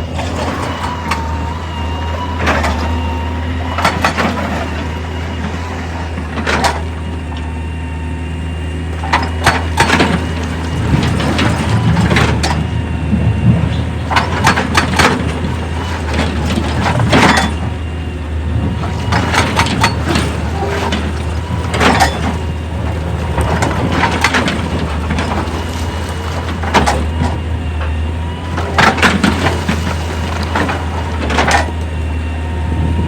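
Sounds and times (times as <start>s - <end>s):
heavy machinery engine drone: 0.0s - 33.0s.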